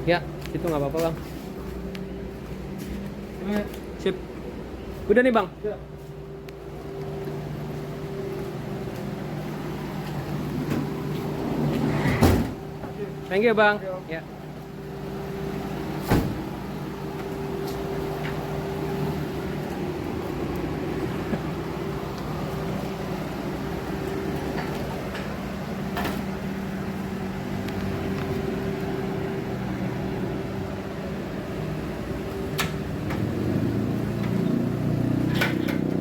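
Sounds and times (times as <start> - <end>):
vehicle engine idling: 0.0 - 11.8, 12.6 - 36.0.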